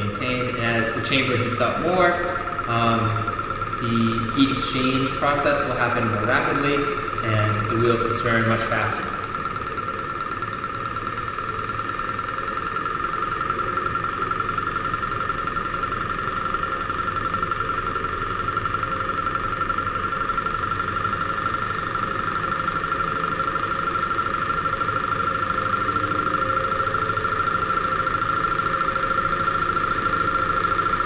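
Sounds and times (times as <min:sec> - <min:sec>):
stirling engine running: 0:00.0 - 0:31.0.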